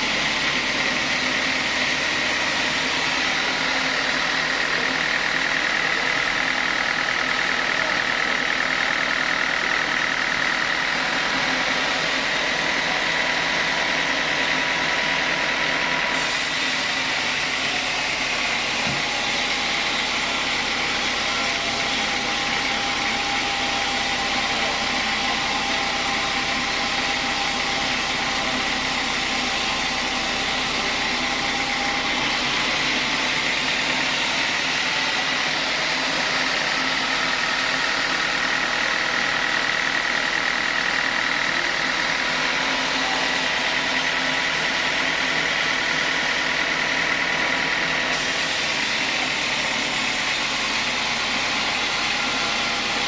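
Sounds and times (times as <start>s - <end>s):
sawmill saw whining: 0.0s - 53.0s.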